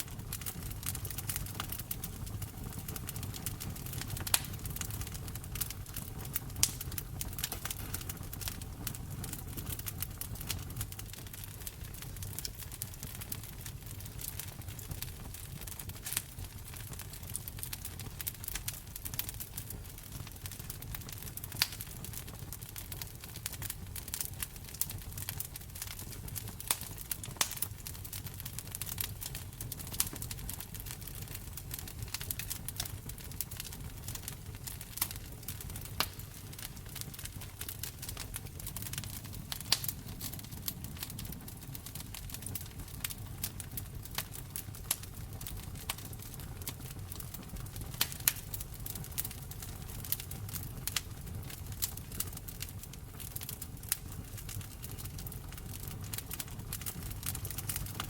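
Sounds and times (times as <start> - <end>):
fireplace fire crackling: 0.0 - 58.0.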